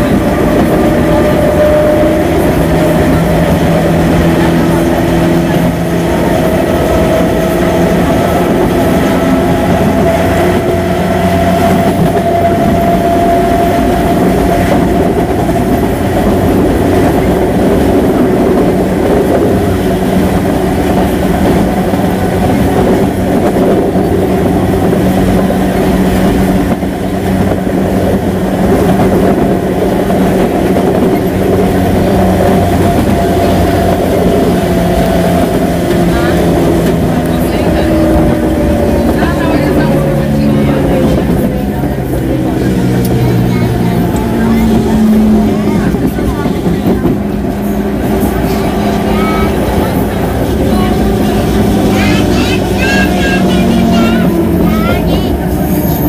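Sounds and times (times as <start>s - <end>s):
electric train motor whine: 0.0s - 56.0s
train running noise: 0.0s - 56.0s.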